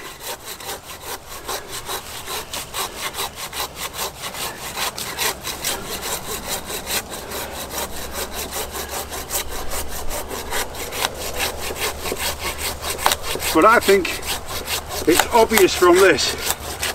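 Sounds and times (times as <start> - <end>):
hand saw cutting branch: 0.0 - 16.9.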